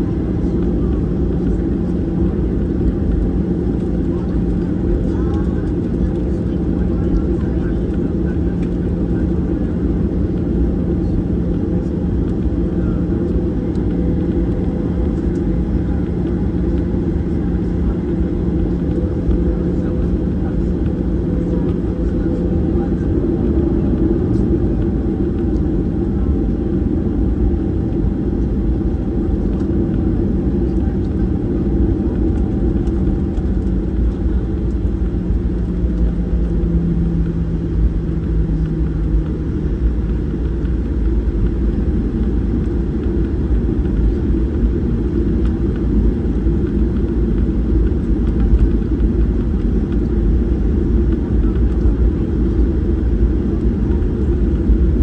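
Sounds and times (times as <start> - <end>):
faint hum: 0.0 - 55.0
jet engines low rumble: 0.0 - 55.0.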